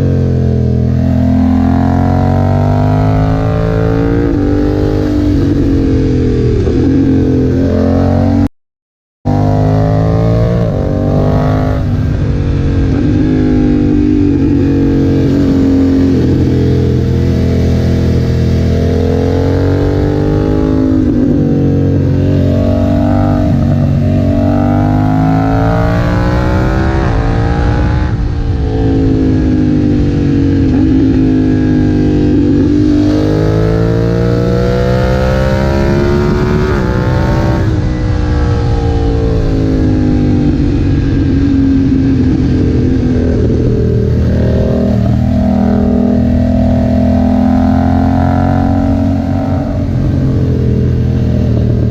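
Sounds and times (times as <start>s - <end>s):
motorcycle engine revving: 0.0s - 8.5s, 9.3s - 51.9s.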